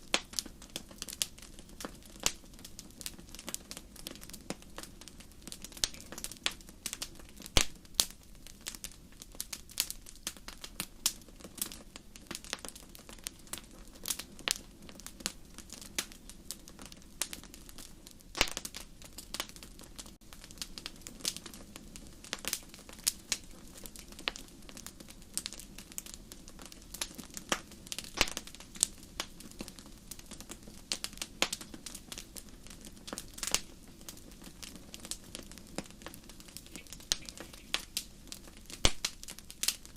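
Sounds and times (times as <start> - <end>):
low hiss of burning: 0.0 - 39.9
wood fire crackling and popping: 0.0 - 39.9.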